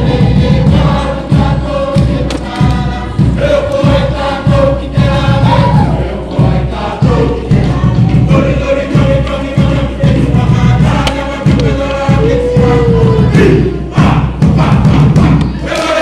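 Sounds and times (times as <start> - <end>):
group singing: 0.0 - 16.0
steady drum beat: 0.0 - 16.0.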